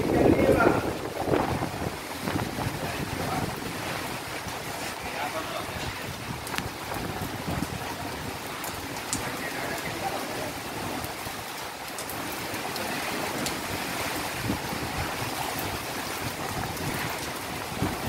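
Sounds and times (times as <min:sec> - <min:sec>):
heavy rain and wind rushing: 0:00.0 - 0:18.0.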